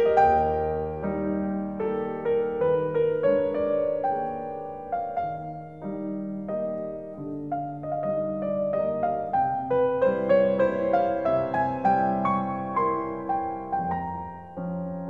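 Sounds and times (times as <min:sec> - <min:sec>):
classical piano piece: 0:00.0 - 0:15.0.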